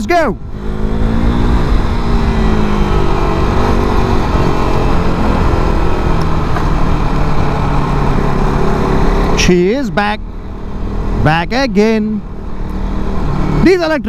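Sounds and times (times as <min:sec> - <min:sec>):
motorcycle engine running: 0:00.4 - 0:14.0.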